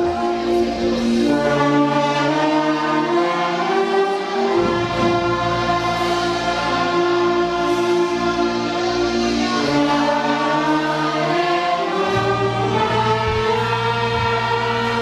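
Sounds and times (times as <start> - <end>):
orchestra playing hymn chords: 0.0 - 15.0.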